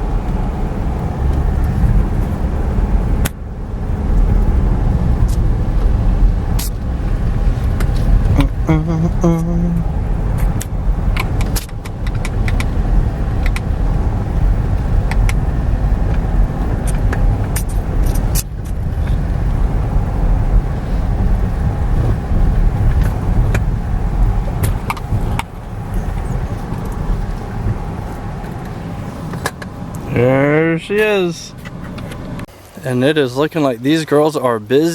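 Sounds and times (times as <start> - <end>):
vehicle engine and road rumble: 0.0 - 34.9.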